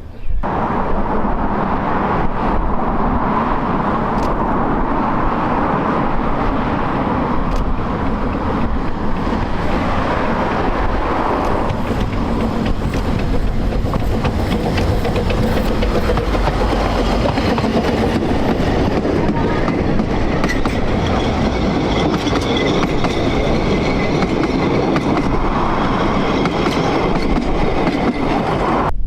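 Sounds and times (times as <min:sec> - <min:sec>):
steam train rumbling: 0:00.0 - 0:29.0
rail clicks: 0:03.8 - 0:04.8, 0:05.4 - 0:29.0.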